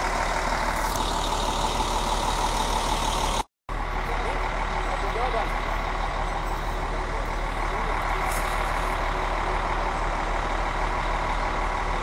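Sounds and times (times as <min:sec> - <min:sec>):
heavy vehicle engine drone: 0:00.0 - 0:12.0.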